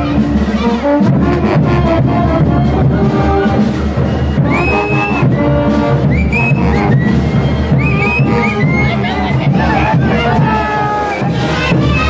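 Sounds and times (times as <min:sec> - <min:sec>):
bass drum beat: 0:00.0 - 0:12.0
brass band playing dance music: 0:00.0 - 0:12.0.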